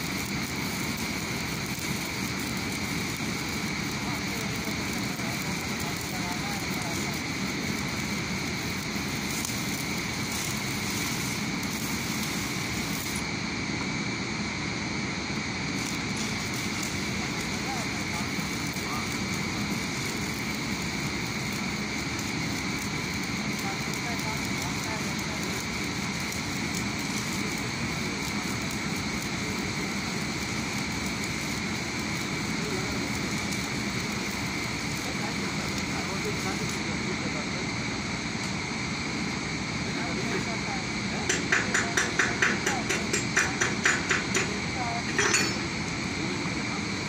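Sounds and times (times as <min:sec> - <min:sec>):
welding arc sizzling: 0:00.0 - 0:47.0.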